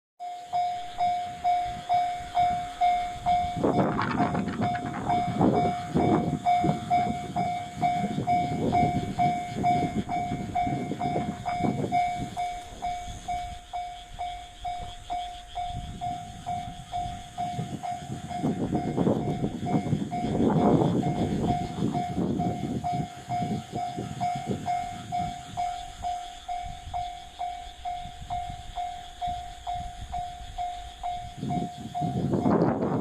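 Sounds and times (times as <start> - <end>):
level-crossing warning bell: 0.2 - 33.0
low rumble of railway noise: 0.2 - 33.0.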